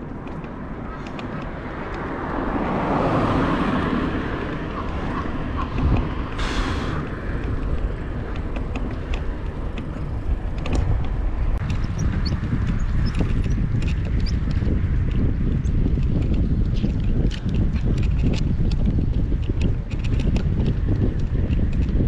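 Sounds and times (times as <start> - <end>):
traffic: 0.0 - 22.0
wind and road noise from bicycle: 0.0 - 22.0.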